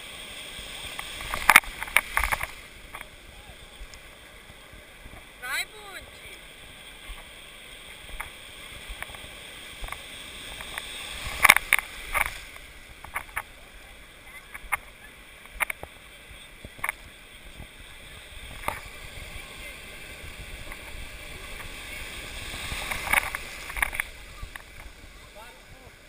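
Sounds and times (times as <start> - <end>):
surf rushing and sloshing: 0.0 - 26.0
water splashing against camera: 0.6 - 26.0.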